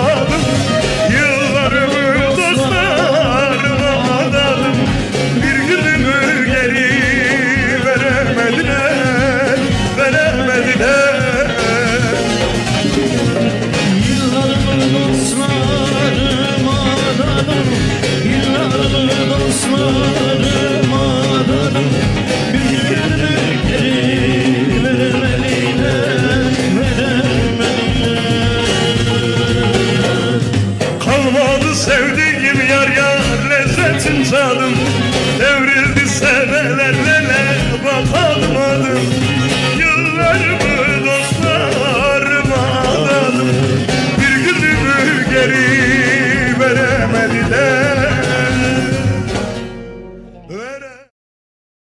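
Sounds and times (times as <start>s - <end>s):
song with ornamented melody: 0.0s - 51.0s.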